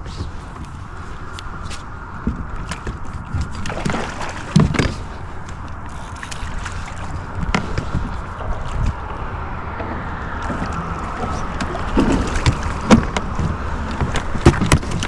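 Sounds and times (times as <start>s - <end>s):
knocks and clicks from boat: 0.0s - 15.0s
wind rumble on microphone: 0.0s - 15.0s
water slapping against kayak hull: 1.5s - 9.8s, 10.4s - 15.0s.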